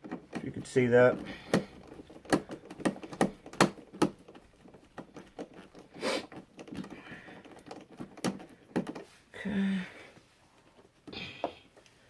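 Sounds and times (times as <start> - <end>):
electrical parts clicking: 0.0 - 10.0.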